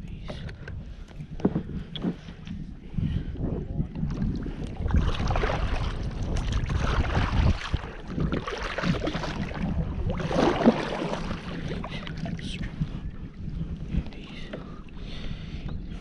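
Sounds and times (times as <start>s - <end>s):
water and kayak noises: 0.0s - 16.0s
wind rumbling on microphone: 0.0s - 16.0s.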